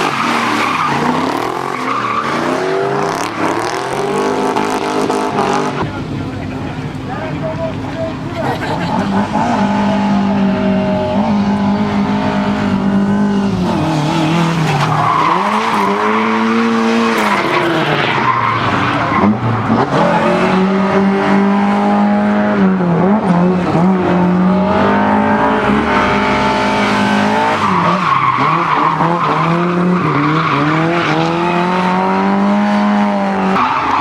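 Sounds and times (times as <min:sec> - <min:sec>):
car engine at high revs: 0:00.0 - 0:34.0.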